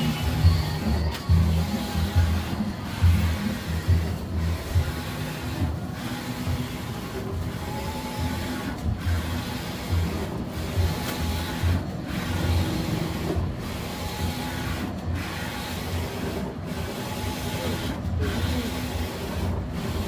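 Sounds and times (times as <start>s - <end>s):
inkjet printer carriage whirring: 0.0s - 20.0s.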